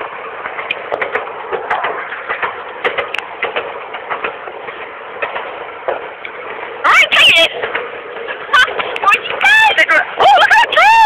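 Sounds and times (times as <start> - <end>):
ride train rattling: 0.0 - 11.0.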